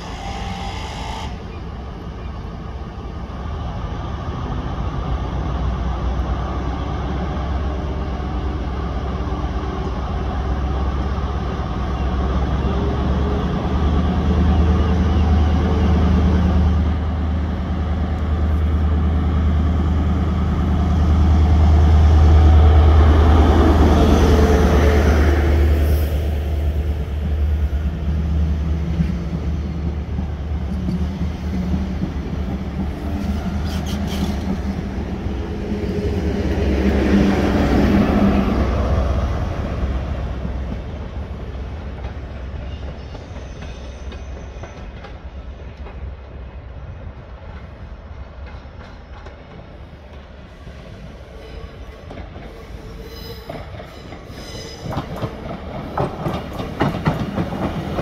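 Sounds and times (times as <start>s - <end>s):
train coaches rumbling and clicking: 0.0s - 58.0s.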